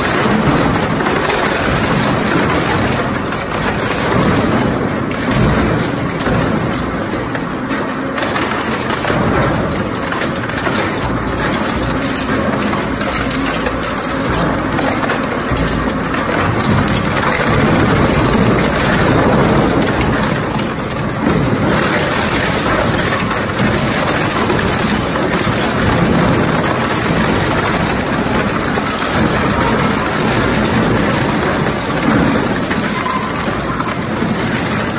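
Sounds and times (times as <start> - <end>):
shredder grinding and crunching metal: 0.0 - 34.9.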